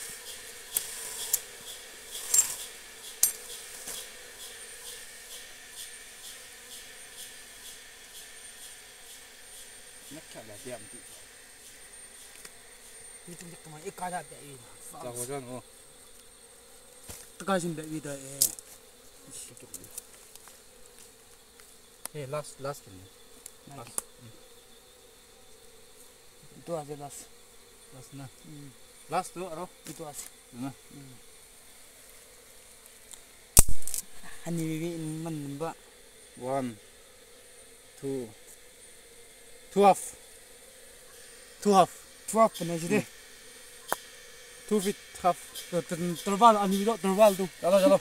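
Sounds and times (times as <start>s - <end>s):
bees humming: 0.0s - 48.0s.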